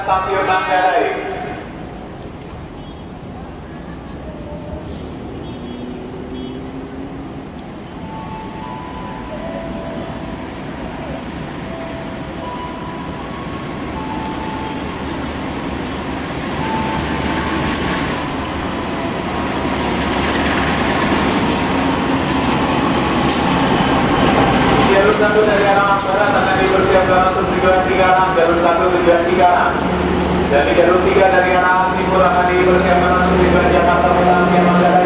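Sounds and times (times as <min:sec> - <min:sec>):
locomotive engine rumble: 0:00.9 - 0:35.0
train wheel noise: 0:03.5 - 0:35.0.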